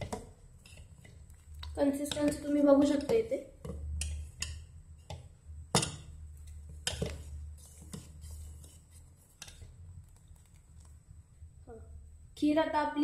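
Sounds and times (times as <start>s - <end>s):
spoon stirring in a saucepan: 0.0s - 11.2s.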